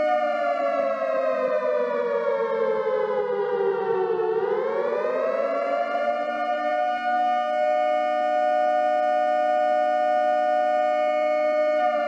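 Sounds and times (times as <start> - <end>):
warning siren sliding in pitch: 0.0 - 12.0.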